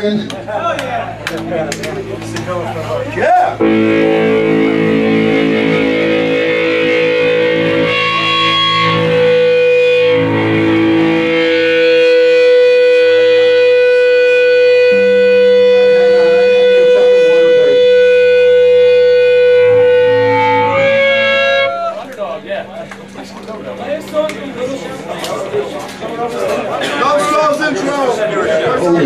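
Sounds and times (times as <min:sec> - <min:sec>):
distorted electric guitar chords: 0:00.0 - 0:26.1.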